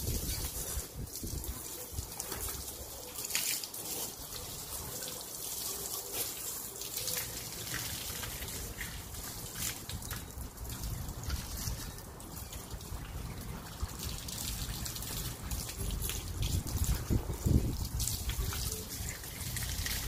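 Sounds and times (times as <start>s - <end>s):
water from hose splashing on tile: 0.0s - 20.0s.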